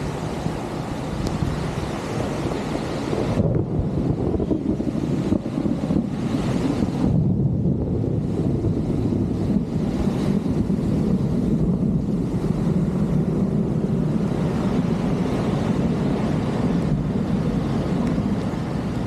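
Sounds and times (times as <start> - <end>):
rain and floodwater rushing: 0.0 - 19.0.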